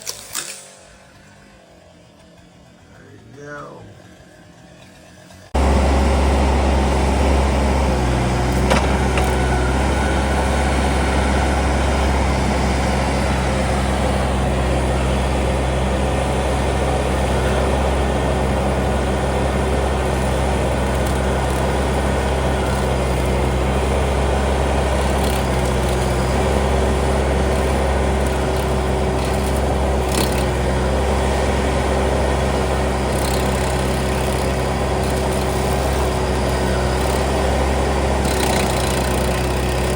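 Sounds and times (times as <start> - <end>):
engine running low drone: 0.0 - 39.9.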